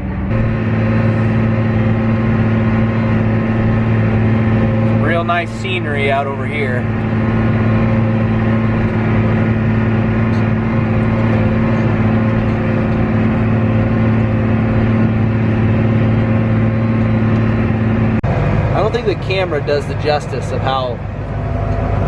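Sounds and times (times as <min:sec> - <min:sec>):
combine harvester engine drone: 0:00.0 - 0:22.0.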